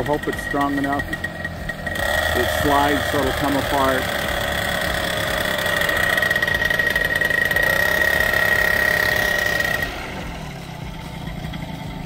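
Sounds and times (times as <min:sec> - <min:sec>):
paramotor engine and propeller: 0:00.0 - 0:12.0.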